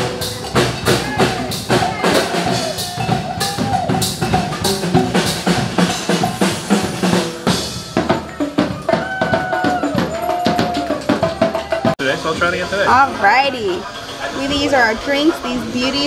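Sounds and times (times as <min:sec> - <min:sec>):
fast drum hits: 0:00.0 - 0:13.3.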